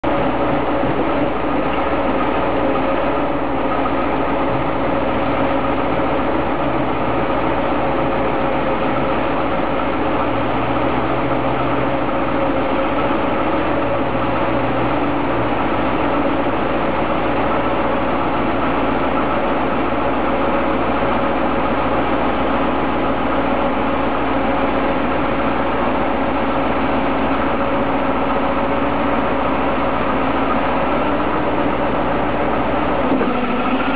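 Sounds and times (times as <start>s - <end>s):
excavator diesel engine idling: 0.0s - 33.9s.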